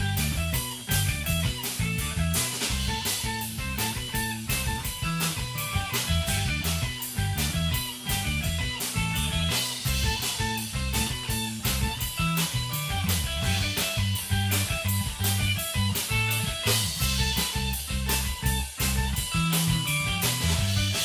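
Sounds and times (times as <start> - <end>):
bass guitar: 0.0 - 21.0
drum kit: 0.0 - 21.0
electric guitar: 0.0 - 21.0.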